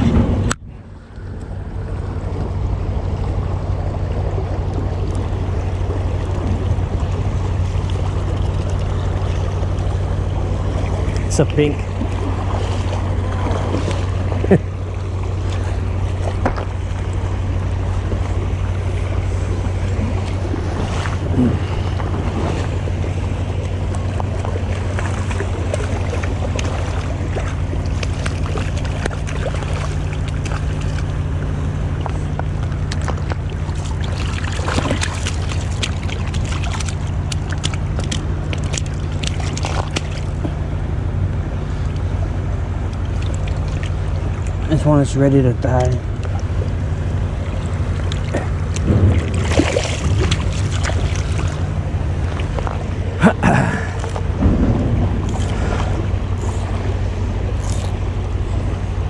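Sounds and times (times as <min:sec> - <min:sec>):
wind rumble on microphone: 0:00.0 - 0:59.0
creek water rushing: 0:01.5 - 0:59.0.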